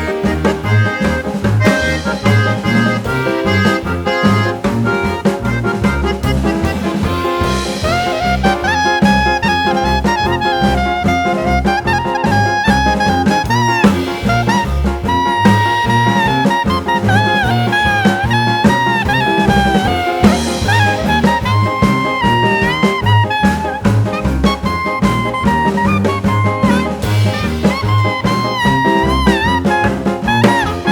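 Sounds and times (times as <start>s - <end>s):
swing jazz music: 0.0s - 30.9s.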